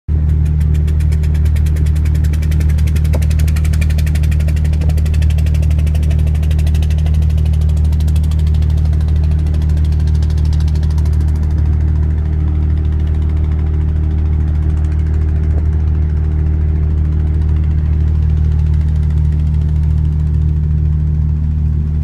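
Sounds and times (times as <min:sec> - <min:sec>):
boat engine ticking hum: 0:00.1 - 0:22.0.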